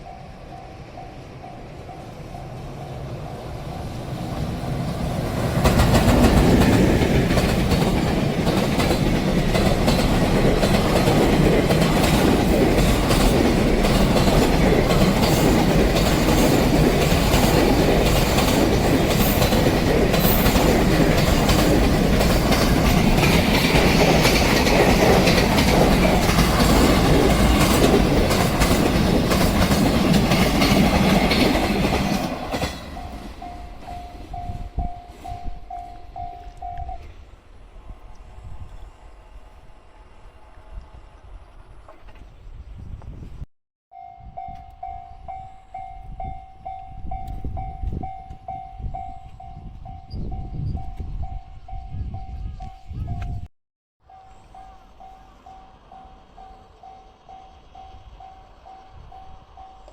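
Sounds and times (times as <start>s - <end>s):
freight train wheels on rails: 0.0s - 53.5s, 54.1s - 59.9s.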